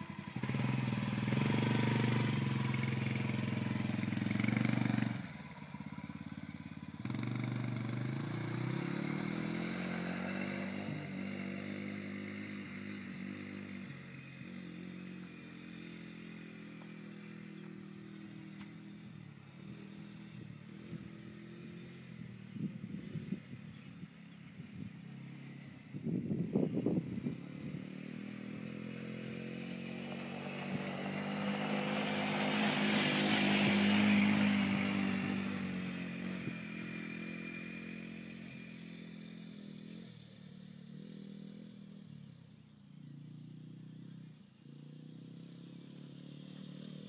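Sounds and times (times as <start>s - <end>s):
atv engine accelerating: 0.0s - 47.0s.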